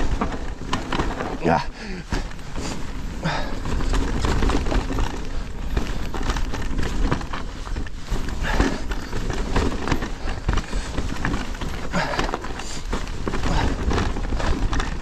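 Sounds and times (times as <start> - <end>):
bike rattling: 0.0 - 15.0.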